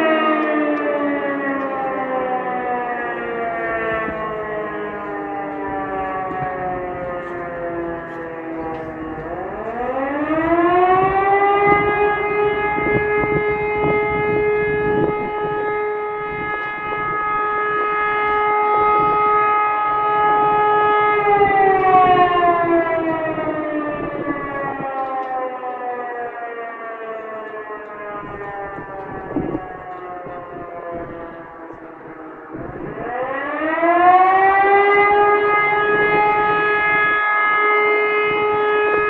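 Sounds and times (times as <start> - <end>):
civil defense siren: 0.0 - 39.0.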